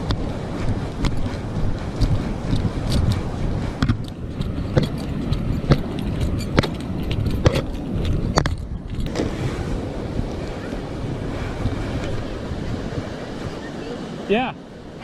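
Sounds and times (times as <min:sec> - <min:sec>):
surf rumble: 0:00.0 - 0:15.0
wind buffeting microphone: 0:00.0 - 0:15.0.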